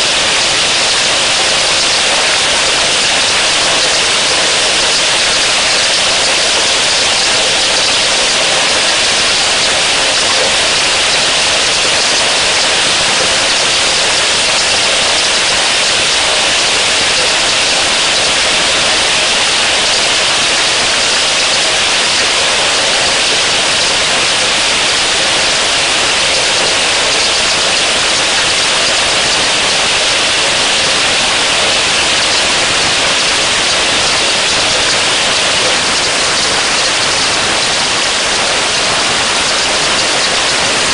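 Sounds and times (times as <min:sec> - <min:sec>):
heavy rain on a pond: 0:00.0 - 0:40.9.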